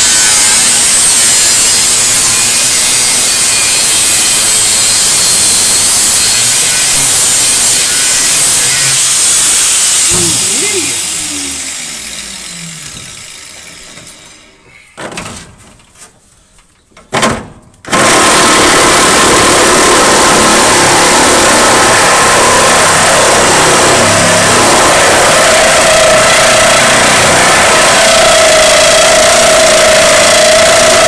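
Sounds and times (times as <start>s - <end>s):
power tool cutting steel: 0.0s - 14.6s, 17.9s - 31.0s.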